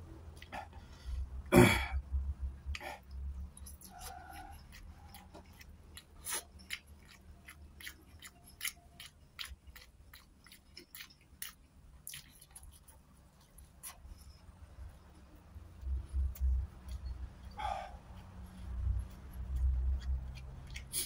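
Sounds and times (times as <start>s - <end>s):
steady low hum: 0.0s - 21.0s
person chewing wetly: 2.7s - 14.4s, 15.8s - 21.0s.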